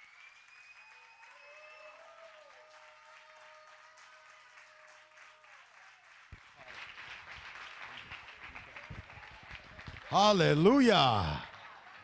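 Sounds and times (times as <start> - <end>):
faint applause: 0.0 - 12.0.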